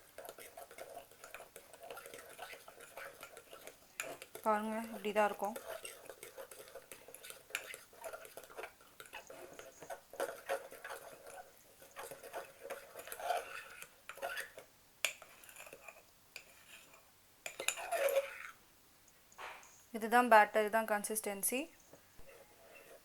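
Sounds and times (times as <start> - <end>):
fork stirring batter in a mug: 0.0 - 18.6, 21.9 - 23.0.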